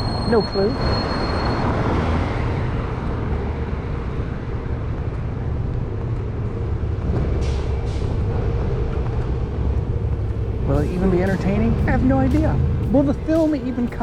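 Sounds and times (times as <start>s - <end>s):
low outdoor rumble: 2.4s - 14.0s.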